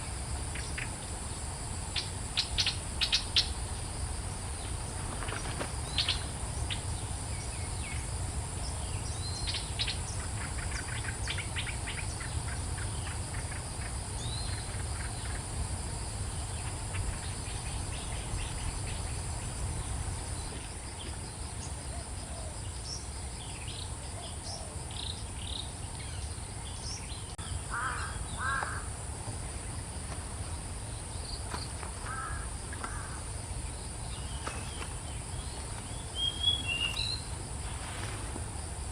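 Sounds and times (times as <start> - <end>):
high insect drone: 0.0 - 38.9
birds chirping: 4.5 - 28.9, 30.4 - 37.4.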